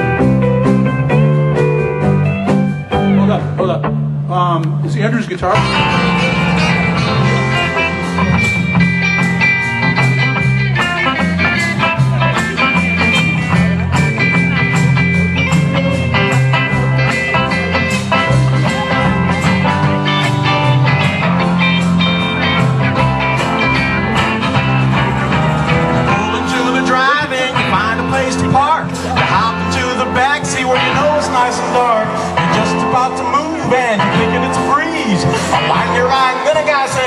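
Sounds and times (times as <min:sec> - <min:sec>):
bass line: 0:00.0 - 0:37.0
guitar melody: 0:00.0 - 0:37.0
steady drumbeat: 0:00.0 - 0:37.0.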